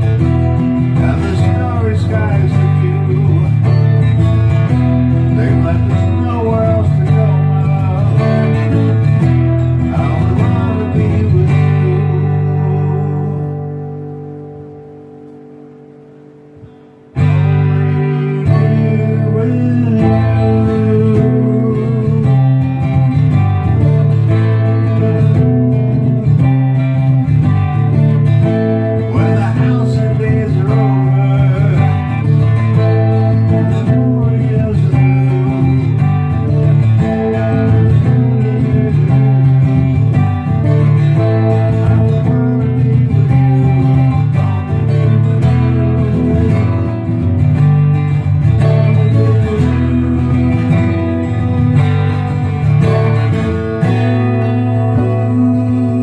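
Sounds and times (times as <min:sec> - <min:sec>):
acoustic guitar strummed: 0:00.0 - 0:56.0.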